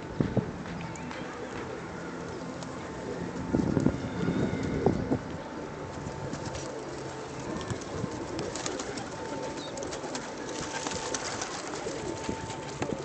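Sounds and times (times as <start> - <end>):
pigeons cooing: 1.4 - 13.0.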